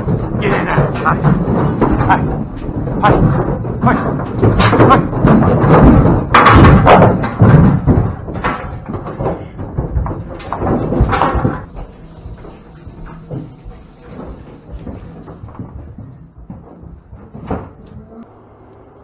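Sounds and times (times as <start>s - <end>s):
cattle hooves clattering in metal trailer: 0.0s - 18.2s.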